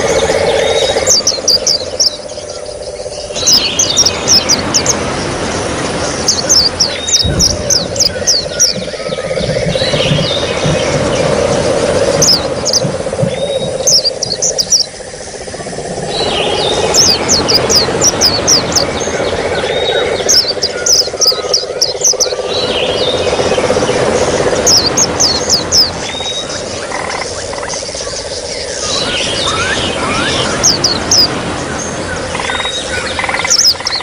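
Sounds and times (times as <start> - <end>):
small songbirds twittering: 0.0 - 34.0
trickling water: 0.0 - 34.0.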